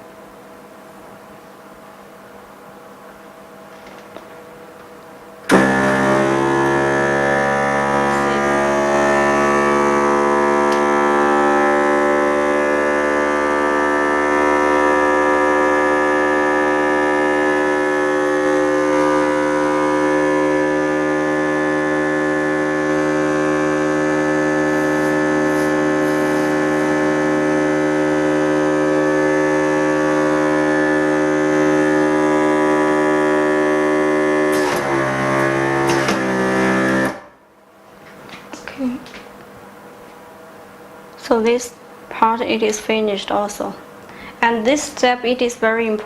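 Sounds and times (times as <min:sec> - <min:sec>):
vacuum pump humming: 0:00.0 - 0:46.0.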